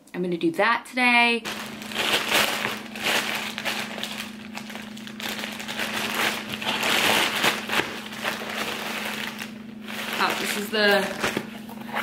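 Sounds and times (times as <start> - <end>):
faint steady hum: 0.0 - 12.0
plastic bags crinkling: 1.4 - 12.0.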